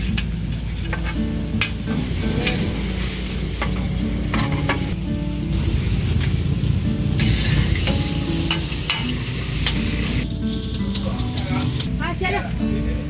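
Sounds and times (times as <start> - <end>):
food sizzling on griddle: 0.0 - 11.9.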